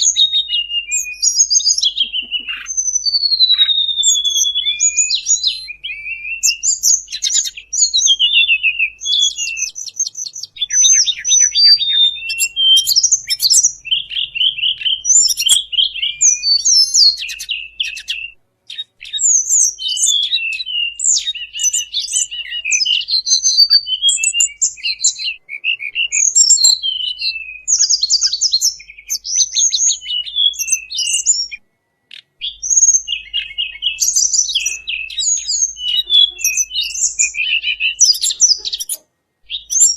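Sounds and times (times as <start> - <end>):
recorded birdsong chirps and trills: 0.0 - 39.9.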